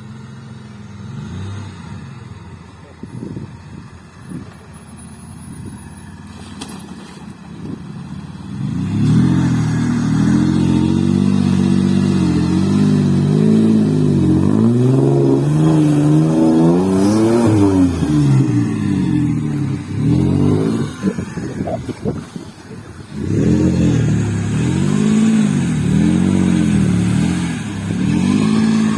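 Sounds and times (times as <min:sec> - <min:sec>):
off-road engine revving hard: 0:00.0 - 0:06.6, 0:08.4 - 0:28.9.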